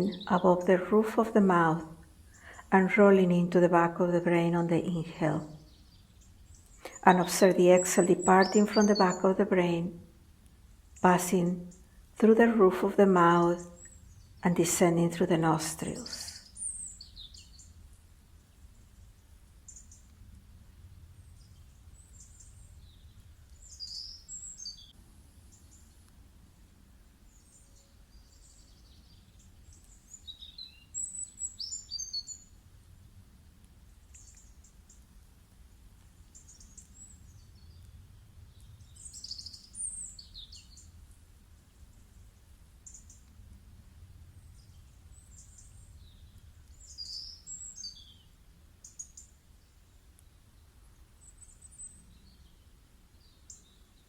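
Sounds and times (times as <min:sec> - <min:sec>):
faint songbirds chirping: 0:00.0 - 0:54.0.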